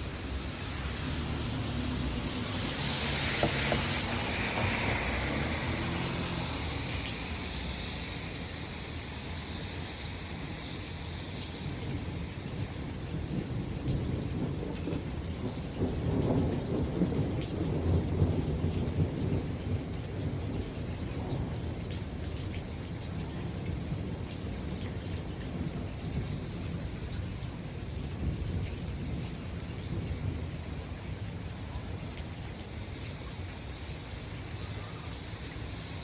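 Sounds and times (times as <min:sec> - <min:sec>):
thunder rumbling: 0:00.0 - 0:33.0
rain falling: 0:00.0 - 0:36.0.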